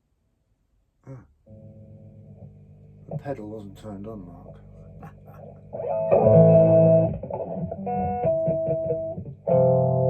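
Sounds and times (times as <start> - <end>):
distorted electric guitar chords: 1.4 - 10.0.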